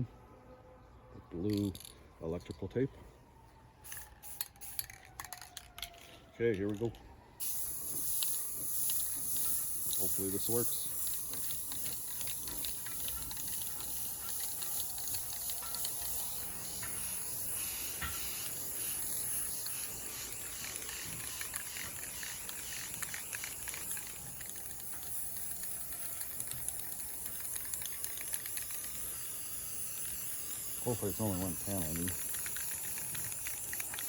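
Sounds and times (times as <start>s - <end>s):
spray paint can hissing: 3.9s - 6.1s, 7.4s - 34.0s.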